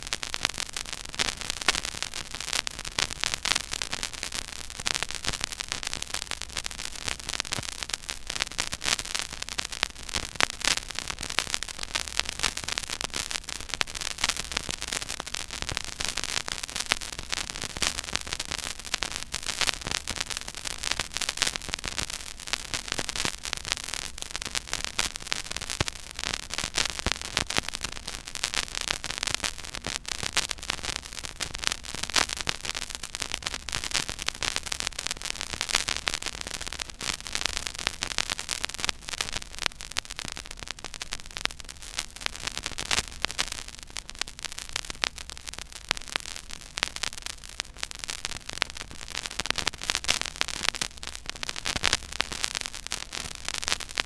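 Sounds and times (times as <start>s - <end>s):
vinyl surface crackle: 0.0s - 54.0s.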